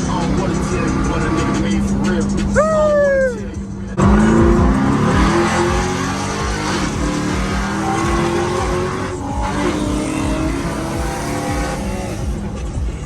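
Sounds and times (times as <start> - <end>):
car engine accelerating: 0.0 - 2.8, 3.5 - 13.0.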